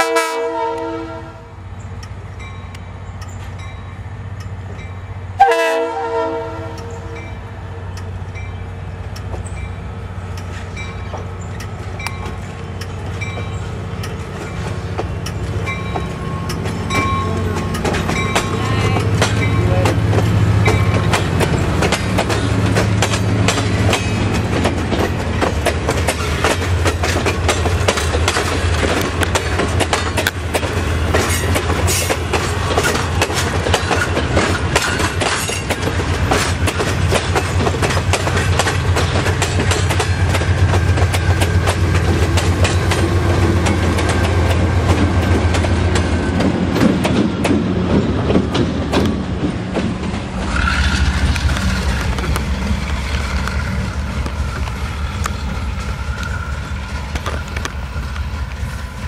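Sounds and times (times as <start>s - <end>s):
train wheels clacking over rail joints: 7.9s - 59.0s.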